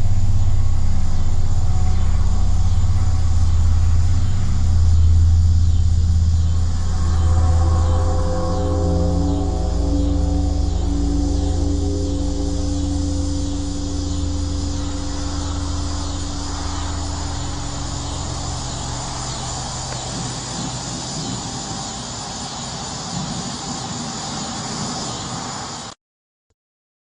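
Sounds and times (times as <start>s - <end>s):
low droning hum: 0.0s - 25.7s
high-pitched insect chirring: 0.0s - 25.9s.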